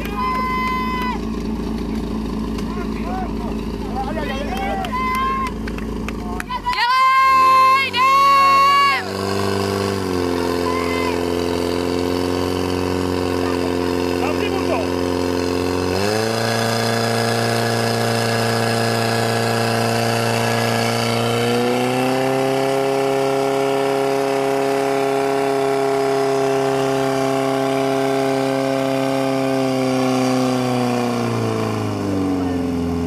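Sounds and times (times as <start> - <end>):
pump engine at high revs: 0.0 - 33.0.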